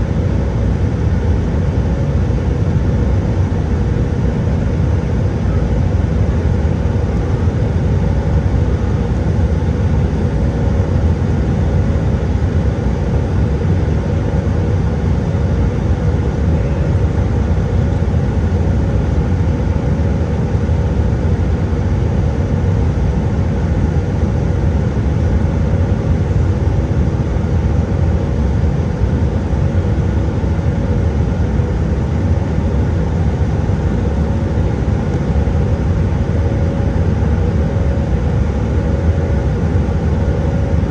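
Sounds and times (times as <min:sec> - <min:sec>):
aircraft cabin engine drone: 0:00.0 - 0:40.9
faint steady hums: 0:00.0 - 0:40.9.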